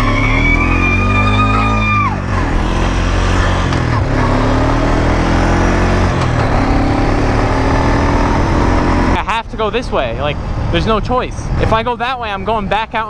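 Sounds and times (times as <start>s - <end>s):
atv engine running: 0.0s - 11.3s.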